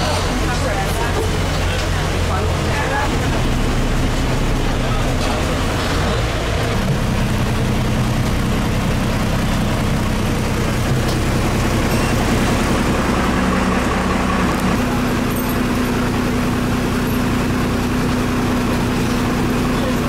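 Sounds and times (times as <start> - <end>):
road noise rushing: 0.0 - 20.0
vehicle engine running: 0.0 - 20.0.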